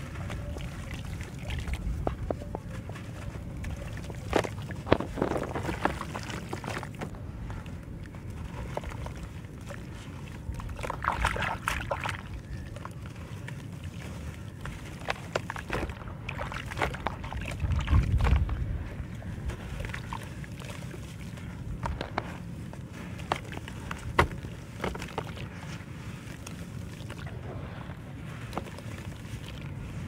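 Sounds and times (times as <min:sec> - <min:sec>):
clumps pattering into water: 0:00.0 - 0:30.0
water sloshing: 0:00.0 - 0:30.0
wet dirt crumbling: 0:00.0 - 0:30.0.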